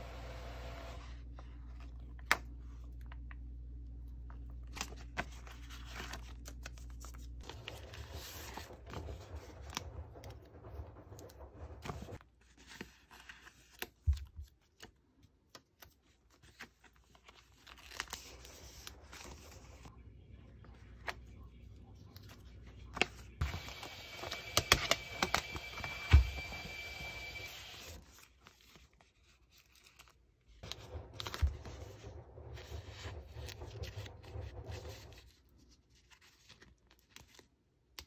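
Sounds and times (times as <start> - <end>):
paper and plastic rustling: 4.3 - 15.0, 15.6 - 20.0, 20.6 - 37.6.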